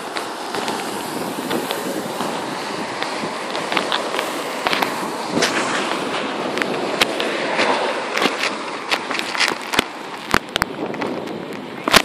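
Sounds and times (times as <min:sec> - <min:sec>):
storm wind and rain hiss: 0:00.0 - 0:12.0.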